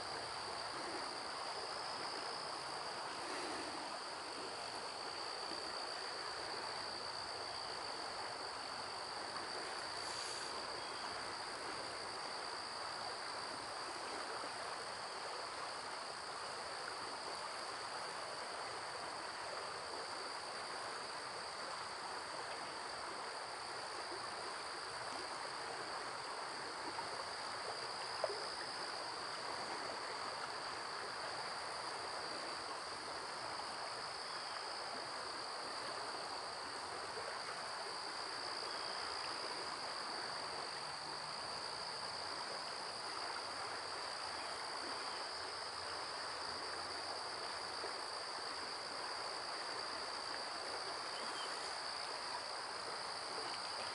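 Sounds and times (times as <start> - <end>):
faint outdoor hiss: 0.0 - 53.9.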